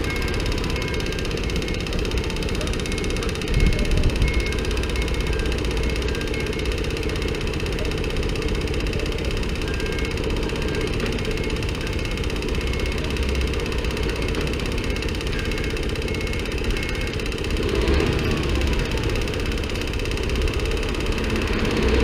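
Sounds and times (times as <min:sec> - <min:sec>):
abnormal mechanical engine noise: 0:00.0 - 0:22.0
motorcycle engine running: 0:00.0 - 0:22.0.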